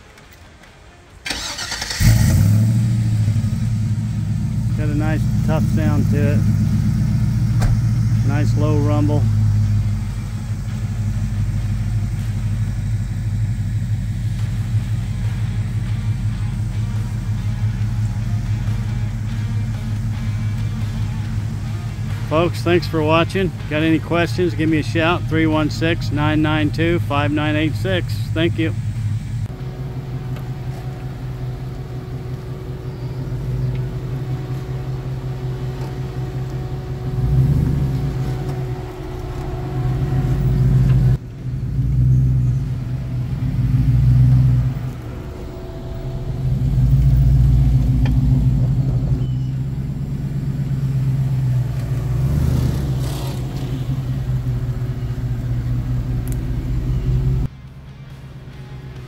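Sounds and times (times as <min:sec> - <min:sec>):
engine rumbling and revving: 0:01.3 - 0:59.0.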